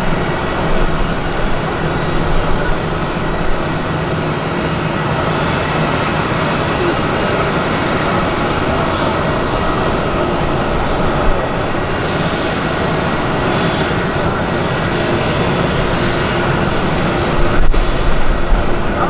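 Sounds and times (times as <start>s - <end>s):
aircraft engines running: 0.0s - 19.0s.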